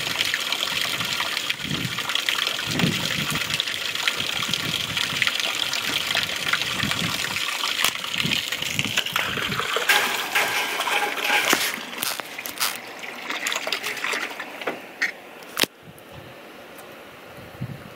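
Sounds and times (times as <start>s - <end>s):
hose water splashing: 0.0s - 15.7s.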